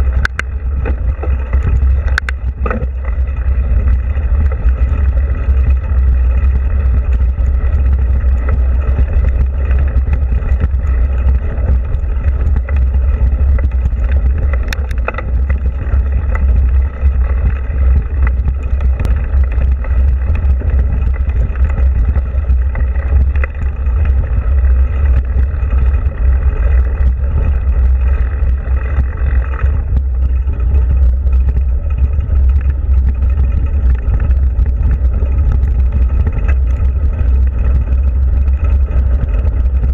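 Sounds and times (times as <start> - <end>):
tyres rolling on gravel: 0.0 - 39.9
wind rumble on microphone: 0.0 - 39.9.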